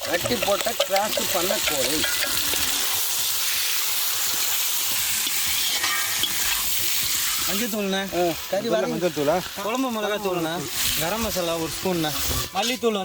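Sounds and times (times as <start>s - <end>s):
chicken sizzling in hot oil: 0.0s - 13.0s
stirring in a pan: 0.0s - 13.0s.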